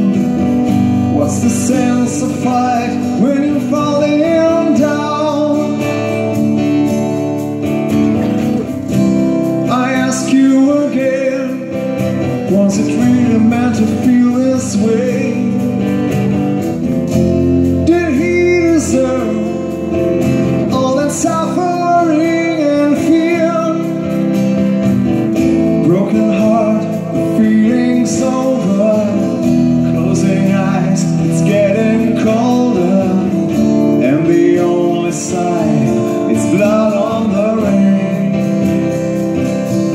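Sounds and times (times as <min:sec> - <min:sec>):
person singing: 0:00.0 - 0:06.9, 0:09.2 - 0:16.6, 0:17.3 - 0:24.8, 0:25.4 - 0:39.9
bass guitar: 0:00.0 - 0:39.9
drums: 0:00.0 - 0:39.9
strummed acoustic guitars: 0:00.0 - 0:39.9.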